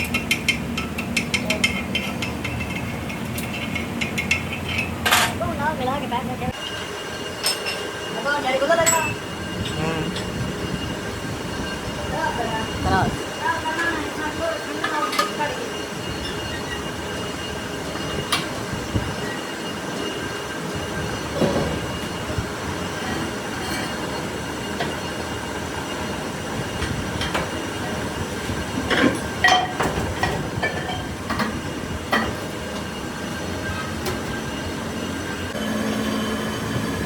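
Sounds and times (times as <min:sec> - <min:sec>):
machine whining and humming: 0:00.0 - 0:37.0.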